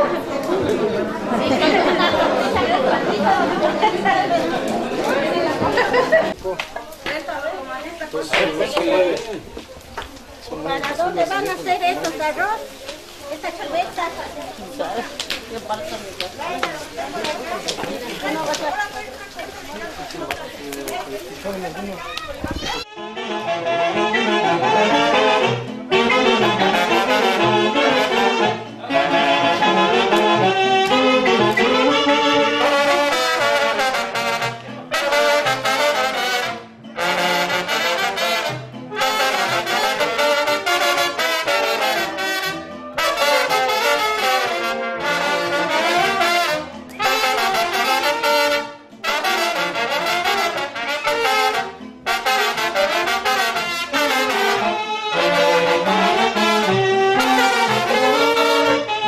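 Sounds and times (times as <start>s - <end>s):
brass band playing a tune: 0.0s - 6.4s, 10.5s - 22.0s, 22.8s - 59.0s.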